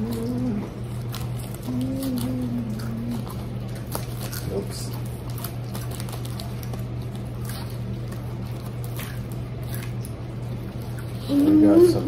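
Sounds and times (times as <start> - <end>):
snack wrapper rustling: 0.0 - 12.0
steady low hum: 0.0 - 12.0
wafer being chewed: 0.0 - 12.0.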